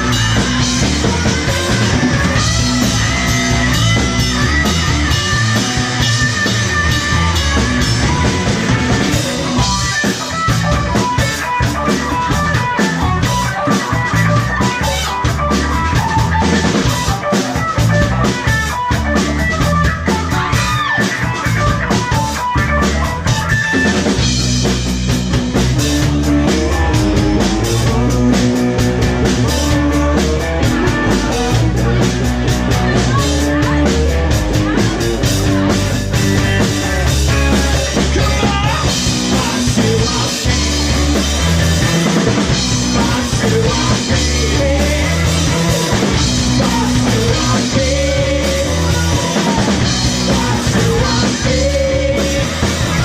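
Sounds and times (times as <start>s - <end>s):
busy drum kit: 0.0s - 53.0s
electric guitar: 0.0s - 53.0s
funk-rock band playing live: 0.0s - 53.0s.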